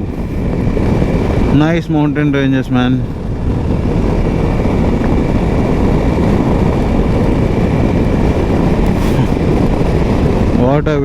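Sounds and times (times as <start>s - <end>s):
motorcycle engine running: 0.0s - 10.9s
wind and road noise: 0.0s - 11.0s.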